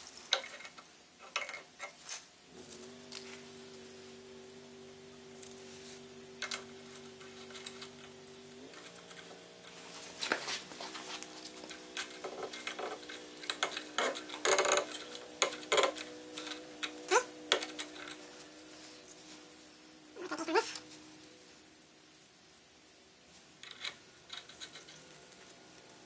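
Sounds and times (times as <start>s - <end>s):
steady low hum: 2.4s - 26.0s.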